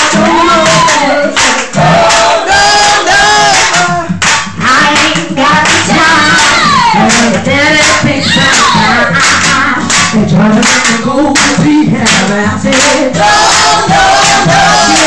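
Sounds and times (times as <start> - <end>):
hands clapping: 0.0 - 15.0
music: 0.0 - 15.0
person singing into microphone: 0.0 - 15.0.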